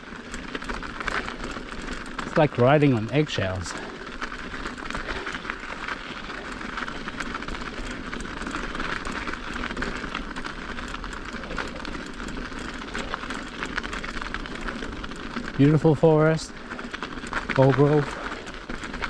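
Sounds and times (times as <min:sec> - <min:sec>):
bike clicks and rattles: 0:00.0 - 0:19.0
bike tyres crunching on ice and snow: 0:00.0 - 0:19.0.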